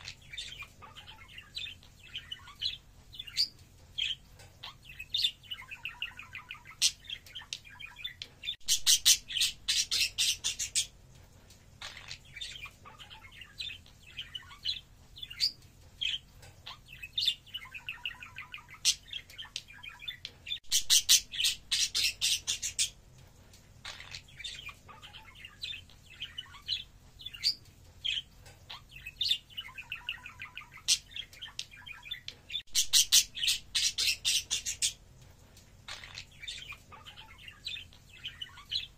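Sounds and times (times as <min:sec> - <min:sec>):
budgerigars warbling and chirping: 0:00.0 - 0:11.0, 0:11.8 - 0:23.0, 0:23.8 - 0:35.0, 0:35.8 - 0:38.9.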